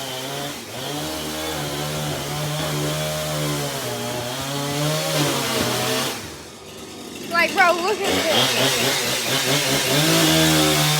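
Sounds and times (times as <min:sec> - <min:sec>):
chainsaw cutting through couch: 0:00.0 - 0:10.9.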